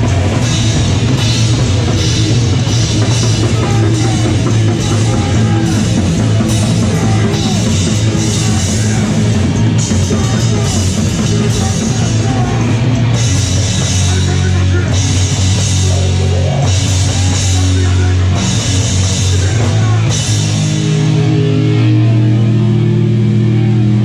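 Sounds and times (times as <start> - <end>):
bass guitar: 0.0 - 24.0
distorted electric guitar: 0.0 - 24.0
drum kit: 0.0 - 24.0.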